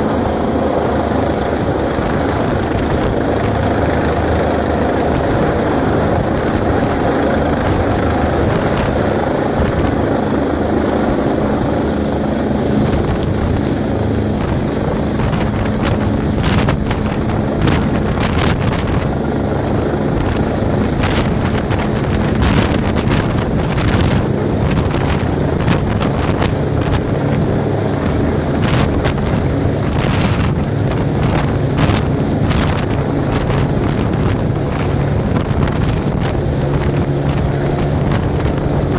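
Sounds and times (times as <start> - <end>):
helicopter rotor and engine: 0.0 - 38.9
rotor downwash buffeting microphone: 0.0 - 38.9.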